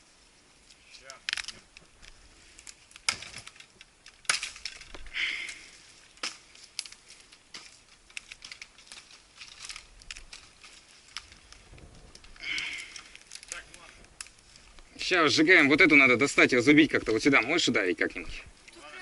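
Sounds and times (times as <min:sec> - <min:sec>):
rustling: 0:00.0 - 0:19.0
dry wood and twigs cracking: 0:00.2 - 0:19.0.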